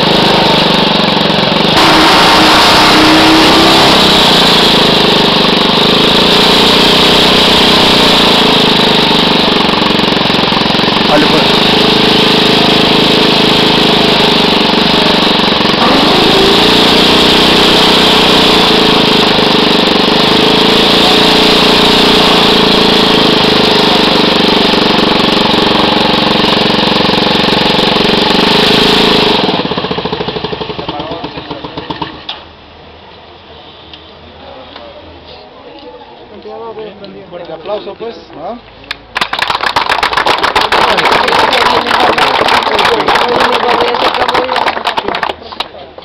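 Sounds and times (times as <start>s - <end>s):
small engine running: 0.0s - 32.3s, 39.2s - 45.4s.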